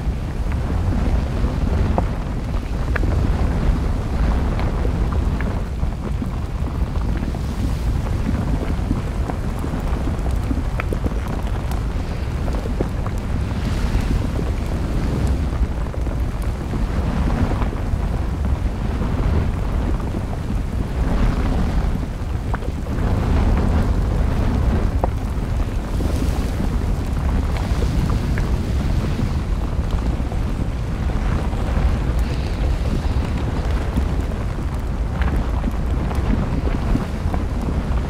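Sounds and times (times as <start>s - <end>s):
deep rumble of volcanic eruption: 0.0s - 38.0s.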